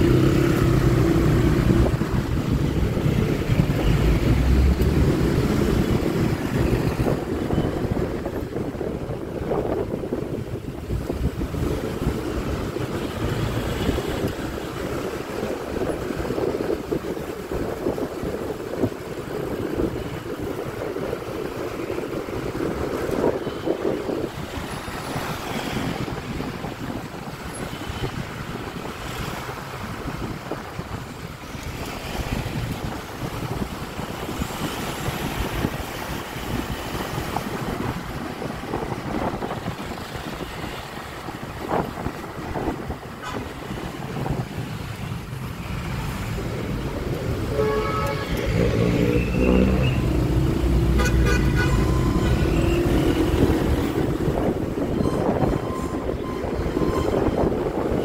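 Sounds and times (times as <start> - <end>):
surrounding traffic: 0.0 - 58.0
wind rushing over microphone: 0.0 - 58.0.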